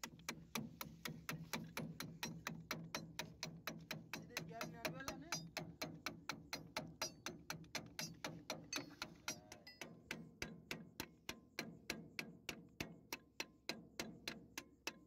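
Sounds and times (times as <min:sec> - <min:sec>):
rapid metal tapping: 0:00.0 - 0:15.0.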